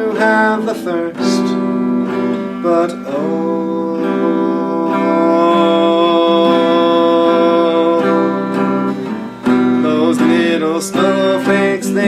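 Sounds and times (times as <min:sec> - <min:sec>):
acoustic guitar: 0:00.0 - 0:12.0
person singing long note: 0:00.0 - 0:12.0.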